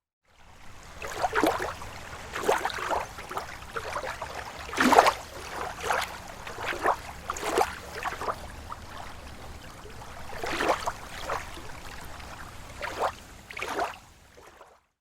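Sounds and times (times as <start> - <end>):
lake water lapping on shore: 0.4 - 14.8.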